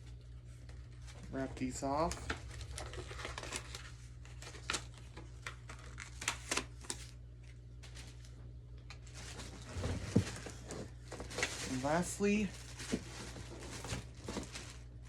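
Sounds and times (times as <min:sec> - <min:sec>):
steady low hum: 0:00.0 - 0:15.0
plastic wrapping crinkling: 0:00.3 - 0:08.3, 0:08.9 - 0:15.0.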